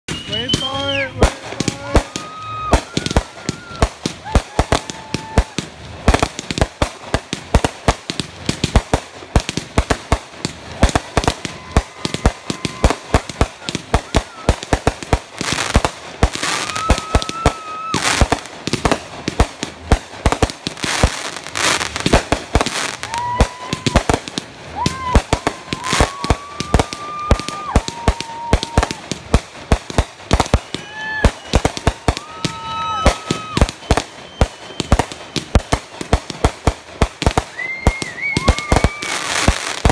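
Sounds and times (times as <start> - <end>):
fireworks banging: 0.1 - 39.9.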